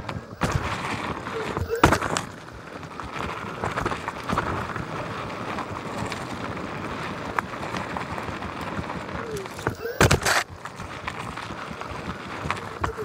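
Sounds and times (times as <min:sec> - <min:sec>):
gravel crackles and knocks: 0:00.0 - 0:13.0
tire rushing over dirt: 0:00.0 - 0:13.0.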